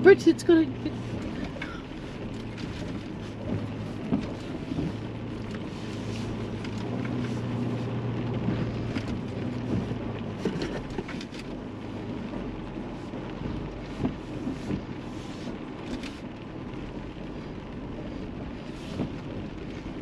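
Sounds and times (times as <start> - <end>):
rain ticking on car body: 0.0 - 20.0
truck engine running: 0.0 - 20.0.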